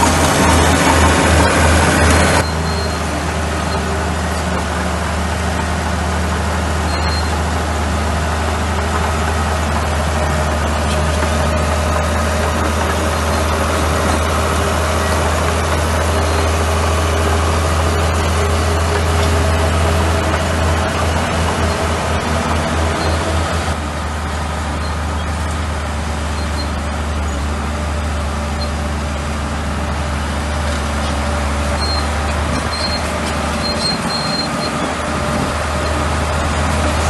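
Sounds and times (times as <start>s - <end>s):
bulldozer diesel engine: 0.0s - 37.0s.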